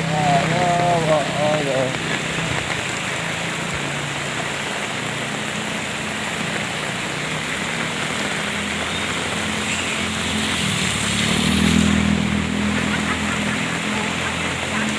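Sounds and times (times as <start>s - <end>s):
engine humming: 0.0s - 14.9s
steady rain falling: 0.0s - 14.9s.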